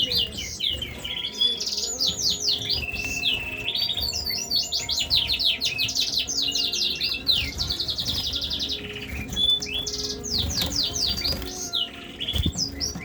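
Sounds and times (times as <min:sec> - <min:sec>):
finches and canaries singing: 0:00.0 - 0:13.0.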